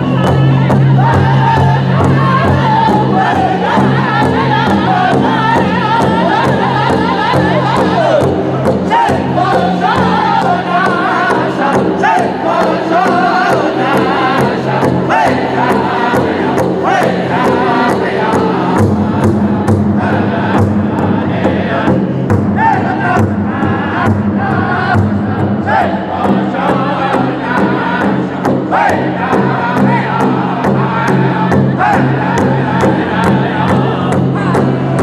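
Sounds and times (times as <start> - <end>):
men beating large drum: 0.0 - 35.0
men chanting in unison: 0.0 - 35.0.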